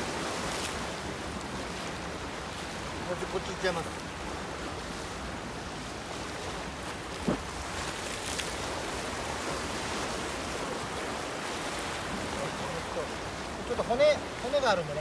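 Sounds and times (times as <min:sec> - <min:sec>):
sea surf washing: 0:00.0 - 0:15.0.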